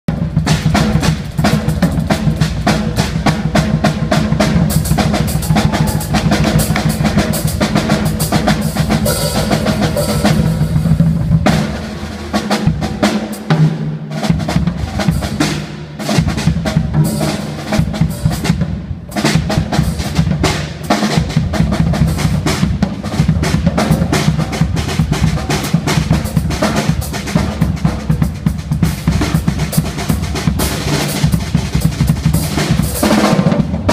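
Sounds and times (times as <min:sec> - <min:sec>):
drum kit solo: 0:00.1 - 0:33.9.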